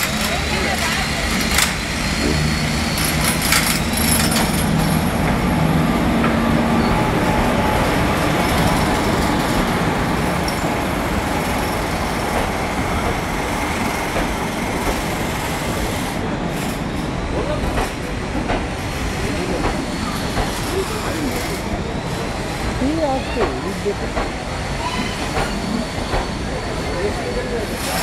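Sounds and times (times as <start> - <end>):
electric locomotive humming: 0.0 - 28.0
train wheels rumbling on rails: 0.0 - 28.0.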